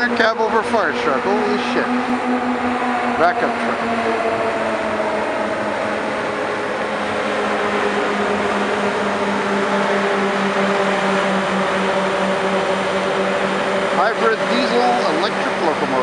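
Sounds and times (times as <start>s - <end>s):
locomotive droning hum: 0.0s - 16.0s
street traffic noise: 0.0s - 16.0s.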